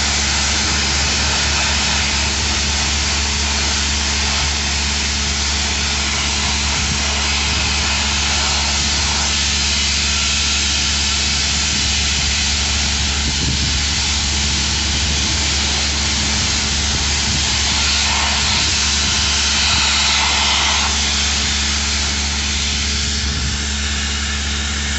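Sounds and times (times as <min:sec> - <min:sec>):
loud hiss: 0:00.0 - 0:24.9
machinery low hum: 0:00.0 - 0:24.9.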